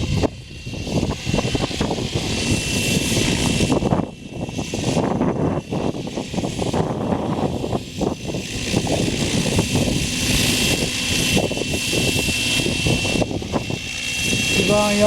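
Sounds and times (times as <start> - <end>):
model helicopter rotor whine: 0.0 - 15.0
wind buffeting microphone: 0.0 - 15.0.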